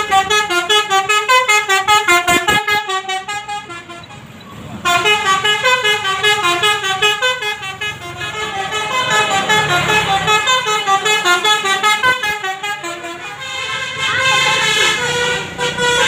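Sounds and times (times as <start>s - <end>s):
bus horn playing a melody: 0.0s - 16.0s.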